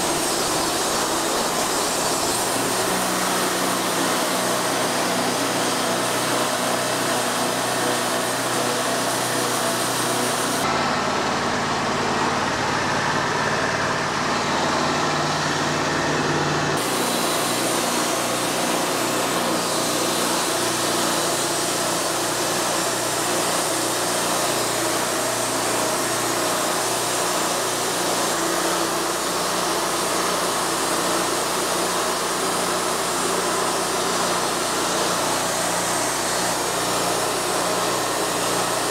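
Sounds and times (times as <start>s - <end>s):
bandsaw mill sawing log: 0.0s - 38.9s.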